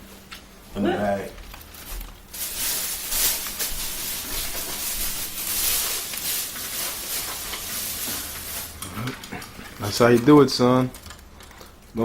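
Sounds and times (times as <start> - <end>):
paper or plastic rustling: 1.3 - 12.0.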